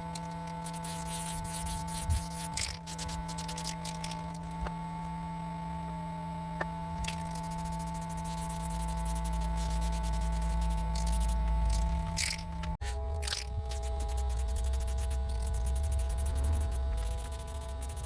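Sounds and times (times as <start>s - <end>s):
steady multi-tone hum: 0.0s - 18.0s.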